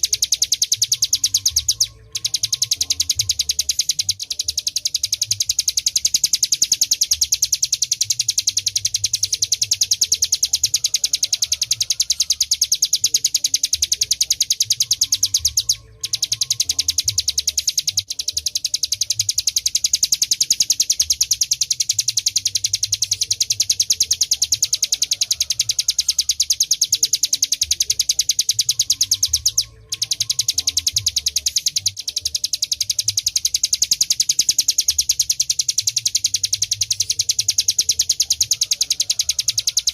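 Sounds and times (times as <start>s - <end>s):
bird singing rattling trill: 0.0s - 39.9s.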